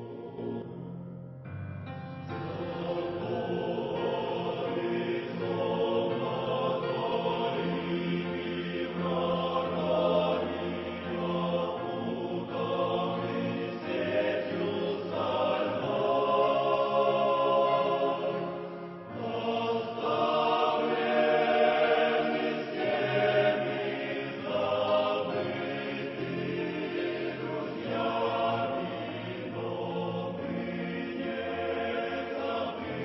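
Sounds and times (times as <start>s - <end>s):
choir singing held chords: 0.0s - 0.9s, 1.9s - 33.0s.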